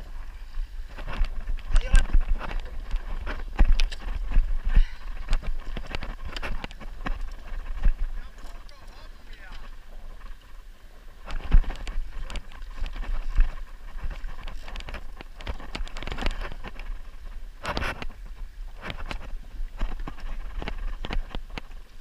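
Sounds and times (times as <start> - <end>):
oars knocking and splashing: 0.0 - 22.0
wind rumble on microphone: 0.0 - 22.0.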